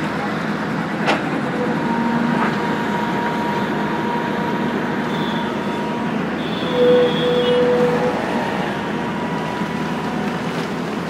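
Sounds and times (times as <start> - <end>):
excavator engine running: 0.0 - 11.0
faint hydraulic whine: 1.1 - 10.8.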